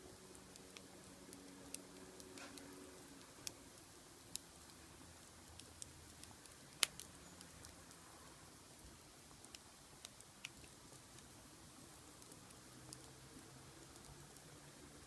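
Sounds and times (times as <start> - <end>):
sharp pops and ticks: 0.0 - 8.0, 8.6 - 15.0
wood fire crackling: 0.0 - 15.0.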